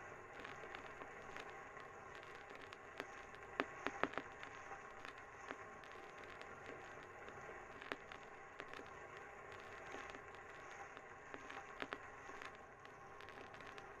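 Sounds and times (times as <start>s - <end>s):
faint steady hiss: 0.0s - 14.0s
sharp clicks and crackles: 0.2s - 14.0s.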